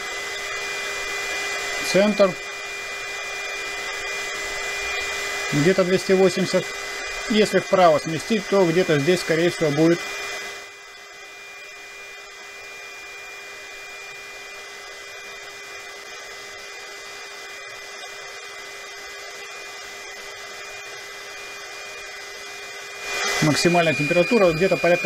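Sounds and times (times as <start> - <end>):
fan whine: 0.0 - 25.0
heat gun blowing air: 0.0 - 25.0.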